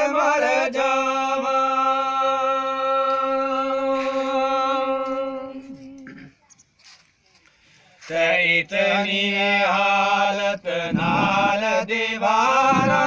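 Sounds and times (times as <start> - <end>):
man singing unaccompanied: 0.0 - 6.1, 8.1 - 13.0.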